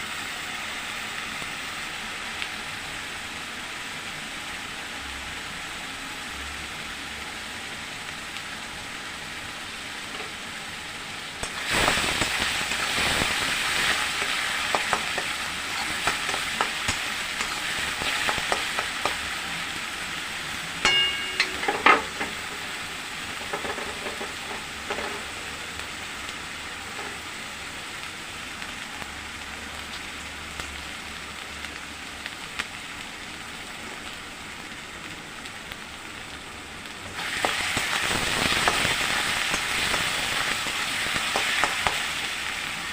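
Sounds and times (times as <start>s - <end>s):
oil sizzling in a pan: 0.0s - 42.9s.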